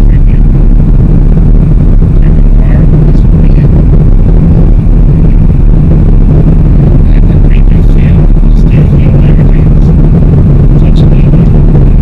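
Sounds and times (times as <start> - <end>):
car interior rumble: 0.0 - 12.0
muffled voices: 0.0 - 12.0.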